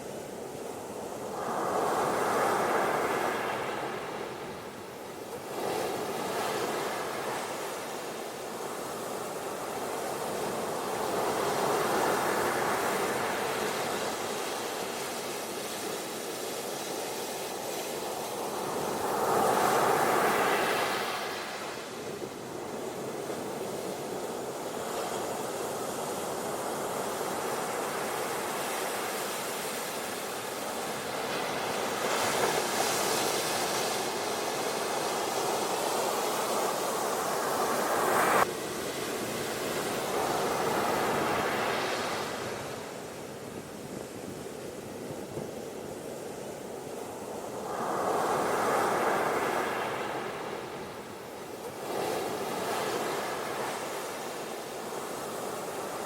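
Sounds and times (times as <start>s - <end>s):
ocean surf washing onto beach: 0.6s - 56.0s.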